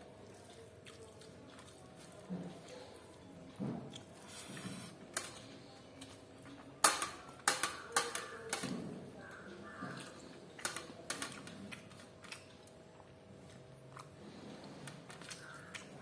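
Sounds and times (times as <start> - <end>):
crunchy chicken chewing: 0.0 - 16.0.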